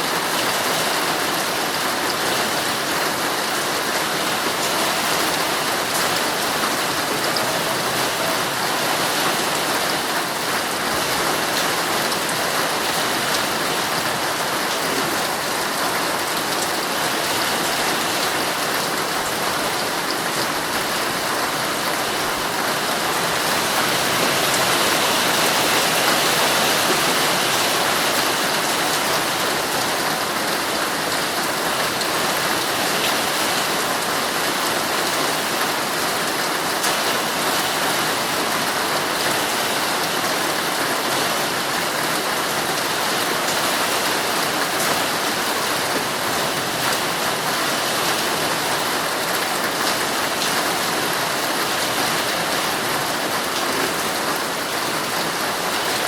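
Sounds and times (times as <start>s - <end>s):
heavy rain drumming on tent fabric: 0.0s - 56.0s.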